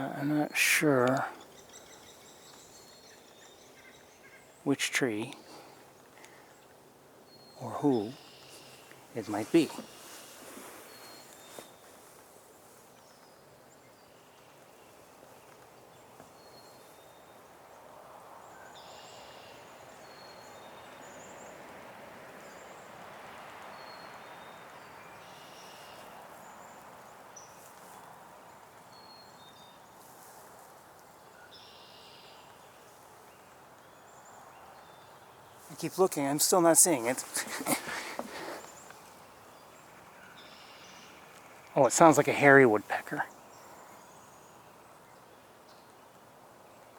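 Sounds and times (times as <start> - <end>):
fuller bird calls: 0.0 - 17.5, 18.4 - 21.7, 23.6 - 30.1, 31.2 - 46.1.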